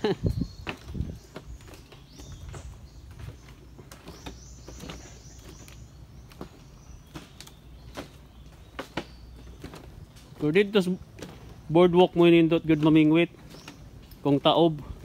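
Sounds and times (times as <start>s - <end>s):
footsteps on wooden planks: 0.0s - 15.0s.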